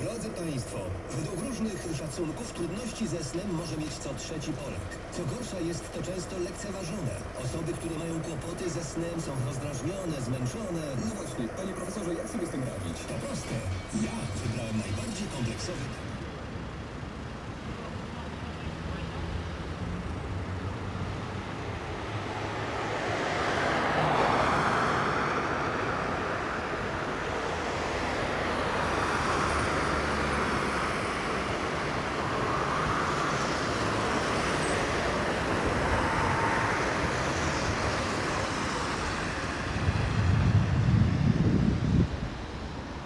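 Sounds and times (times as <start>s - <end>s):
cars passing: 0.0s - 43.0s
low engine hum: 0.0s - 43.0s.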